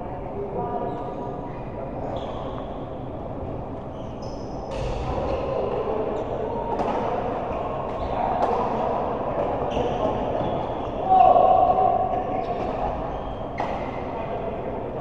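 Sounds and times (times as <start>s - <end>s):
sports hall background noise: 0.0s - 15.0s.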